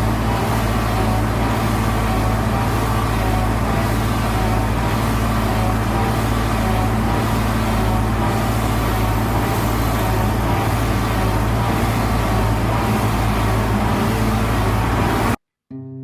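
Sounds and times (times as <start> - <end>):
diesel engine humming: 0.0 - 15.4.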